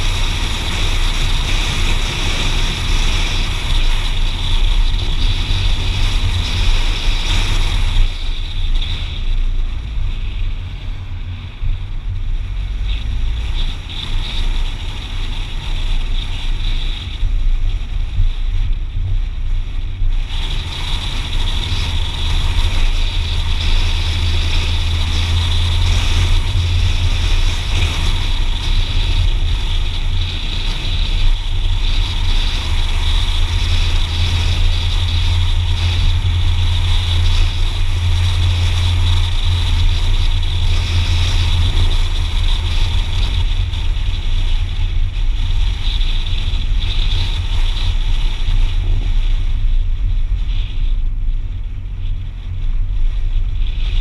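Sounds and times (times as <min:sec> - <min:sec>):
car engine hum: 0:00.0 - 0:54.0
tyre and wind noise: 0:00.0 - 0:54.0.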